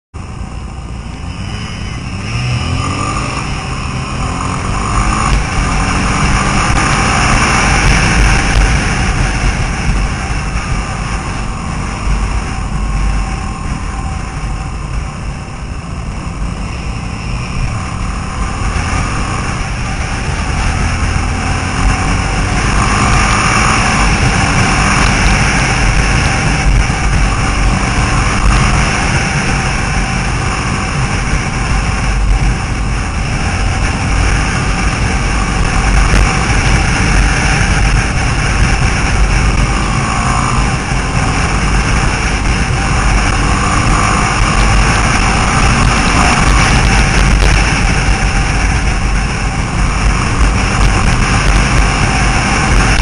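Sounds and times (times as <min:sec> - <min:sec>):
scooter engine running: 0:00.2 - 0:53.0
wind rumble on microphone: 0:00.2 - 0:53.0.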